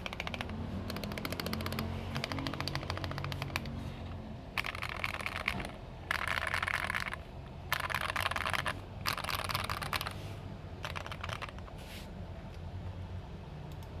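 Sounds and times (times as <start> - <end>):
keyboard typing: 0.0 - 11.8.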